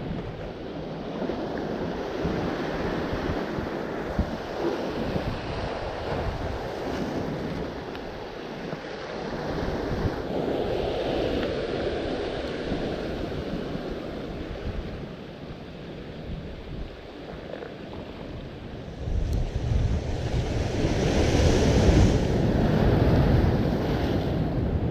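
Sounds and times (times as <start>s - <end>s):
ocean surf washing: 0.0s - 24.9s
wind buffeting the microphone: 0.0s - 24.9s.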